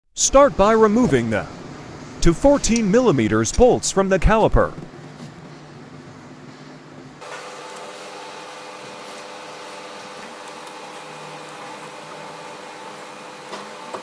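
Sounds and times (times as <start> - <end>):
steady machine hum: 0.2 - 14.0.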